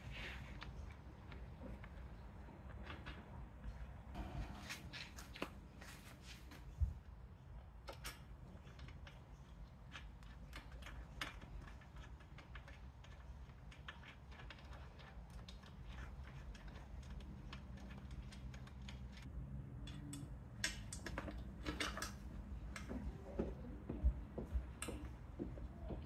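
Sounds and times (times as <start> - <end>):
low steady background hum: 0.0 - 26.0.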